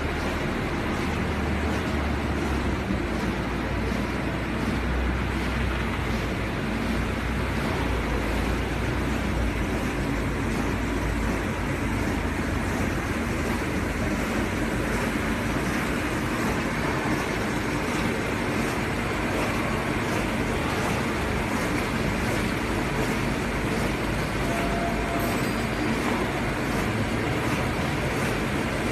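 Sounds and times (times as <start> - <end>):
paper cutting machine running: 0.0 - 28.9.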